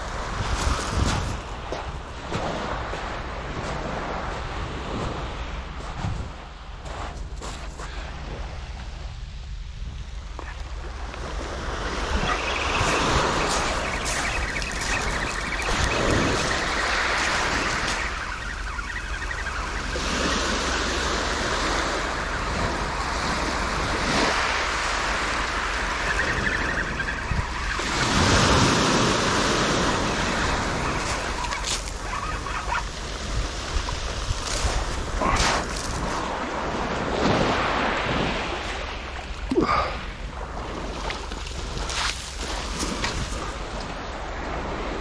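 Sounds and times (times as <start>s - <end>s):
waves washing up shingle beach: 0.0s - 9.2s, 9.8s - 45.0s.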